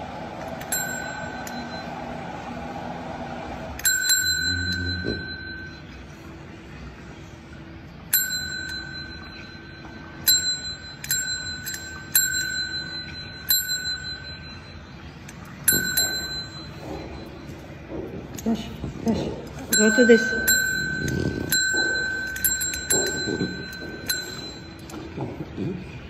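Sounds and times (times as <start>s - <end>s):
service bell dings: 0.0s - 2.8s, 3.7s - 6.3s, 8.0s - 25.6s.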